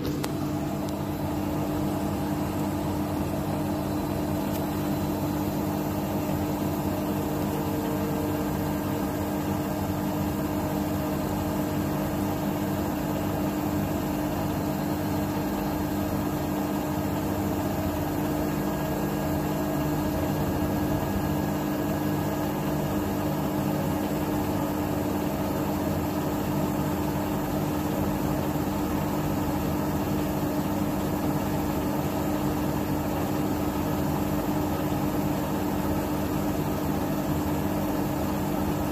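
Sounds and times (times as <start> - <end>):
washing machine drum spinning: 0.0 - 38.9.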